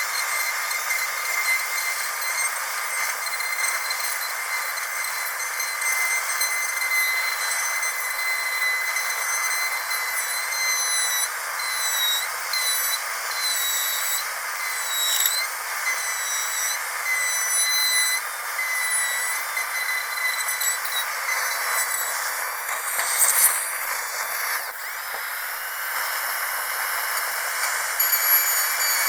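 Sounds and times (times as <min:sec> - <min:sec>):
dentist's drill whining: 0:00.0 - 0:29.0.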